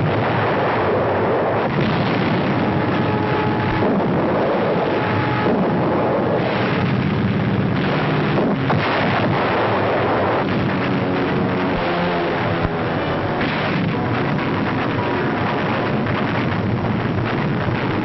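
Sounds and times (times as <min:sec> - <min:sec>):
anti-aircraft gunfire: 0:00.0 - 0:18.0
explosions: 0:00.0 - 0:18.0.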